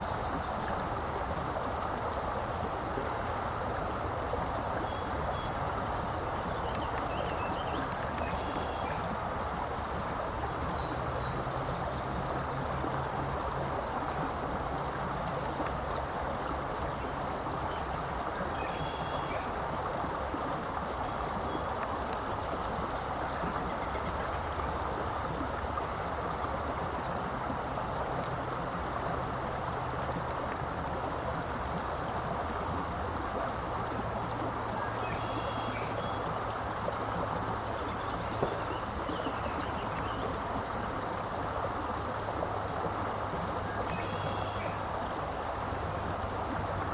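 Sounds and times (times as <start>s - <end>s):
flowing water rushing: 0.0s - 46.9s.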